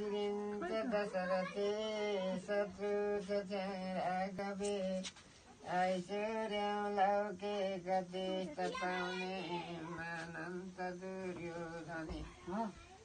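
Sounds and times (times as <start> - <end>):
man chanting: 0.0 - 12.8.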